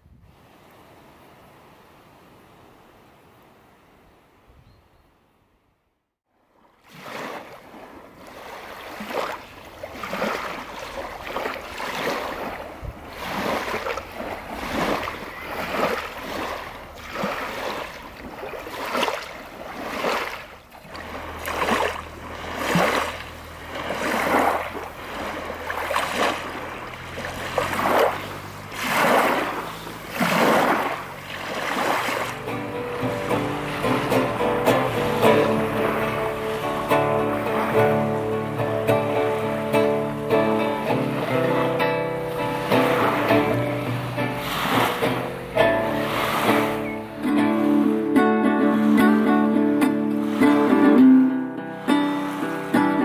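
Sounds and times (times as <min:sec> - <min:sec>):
small waves breaking on shore: 0:00.0 - 0:04.6, 0:06.3 - 0:53.0.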